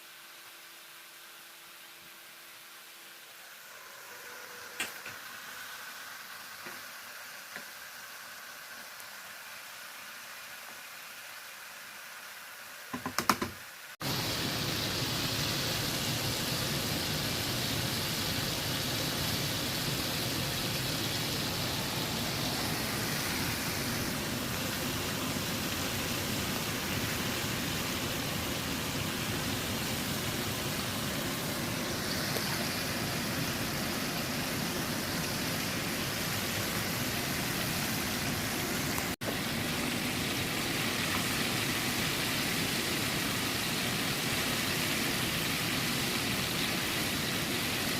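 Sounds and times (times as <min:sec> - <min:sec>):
chicken deep-frying in oil: 0:00.0 - 0:47.9.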